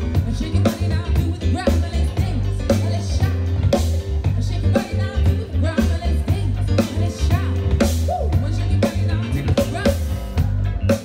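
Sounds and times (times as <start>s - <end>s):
woman singing: 0.0s - 10.7s
bass line: 0.0s - 11.0s
drums: 0.0s - 11.0s.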